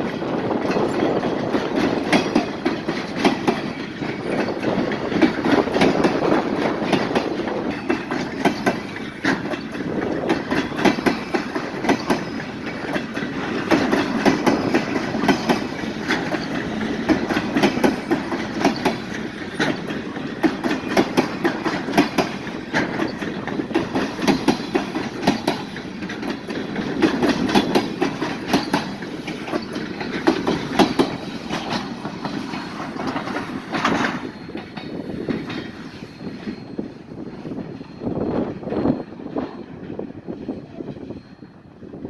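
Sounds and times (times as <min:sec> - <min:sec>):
train rumble: 0:00.0 - 0:42.0
train wheels clattering over rail joints: 0:00.0 - 0:42.0.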